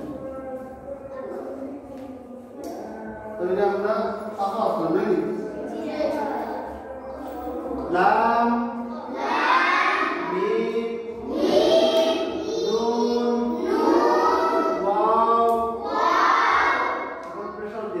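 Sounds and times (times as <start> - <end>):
children reciting in unison: 0.0 - 18.0.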